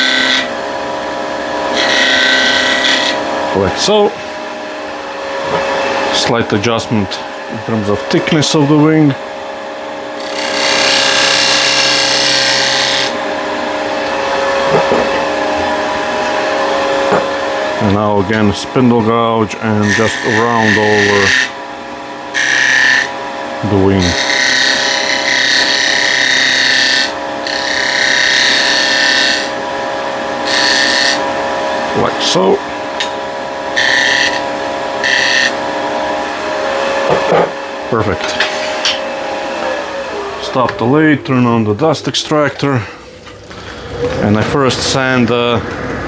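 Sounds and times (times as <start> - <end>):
lathe tool cutting wood: 0.0 - 42.8
wood lathe humming: 0.0 - 46.0.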